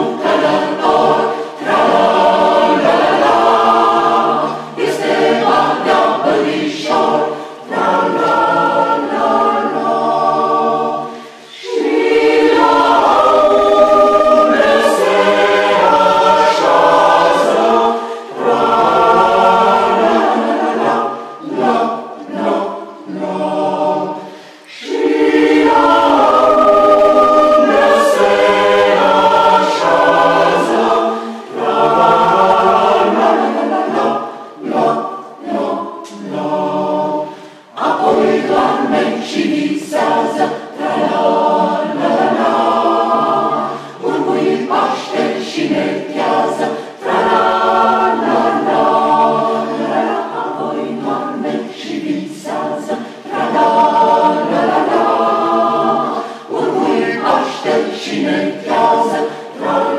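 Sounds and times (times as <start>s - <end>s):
mixed choir singing unaccompanied: 0.0s - 59.9s.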